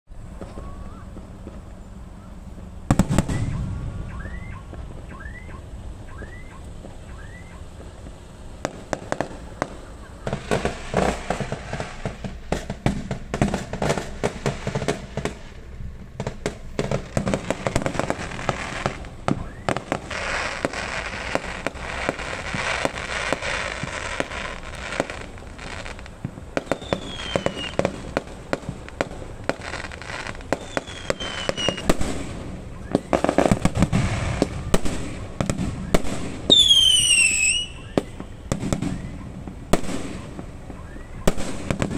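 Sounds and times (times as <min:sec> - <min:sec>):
fireworks bangs: 0:00.1 - 0:41.9
fireworks crackling: 0:00.1 - 0:41.9
fireworks whistles: 0:00.2 - 0:41.9.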